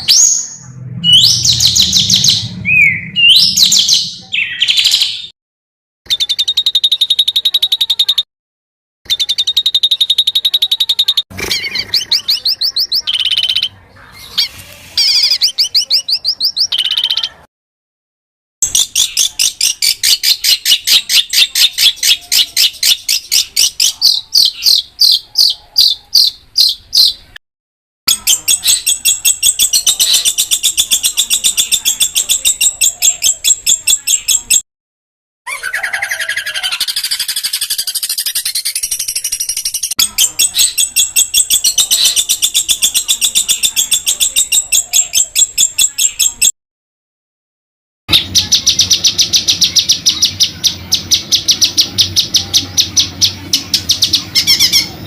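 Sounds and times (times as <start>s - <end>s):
songbird trilling and whistling: 0.0s - 5.3s, 6.1s - 8.2s, 9.1s - 17.4s, 18.6s - 27.3s, 28.1s - 34.6s, 35.5s - 46.5s, 48.1s - 55.0s.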